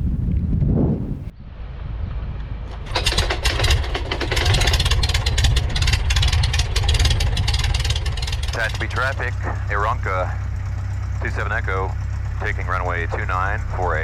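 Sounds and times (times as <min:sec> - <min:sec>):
light aircraft piston engine running: 0:02.7 - 0:14.0.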